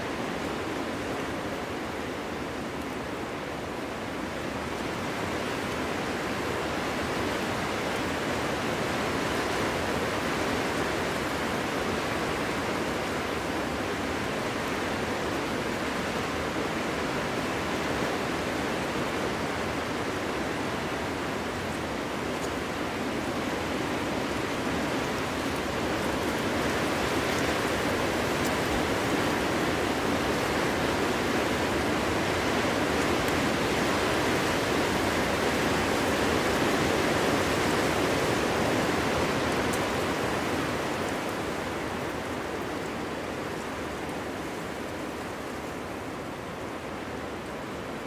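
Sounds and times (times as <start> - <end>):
wind blowing through forest: 0.0 - 48.0.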